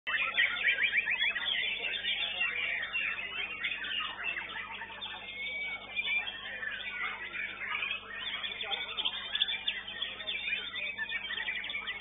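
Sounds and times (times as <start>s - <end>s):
songbirds singing: 0.1s - 12.0s.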